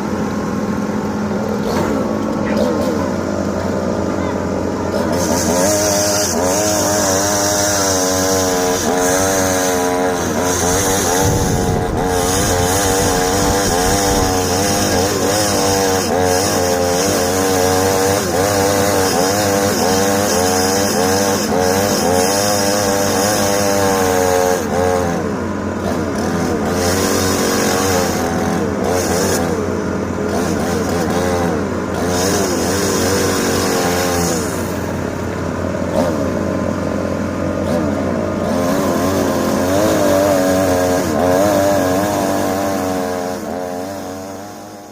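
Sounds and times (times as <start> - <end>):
excavator engine and hydraulics: 0.0 - 44.9.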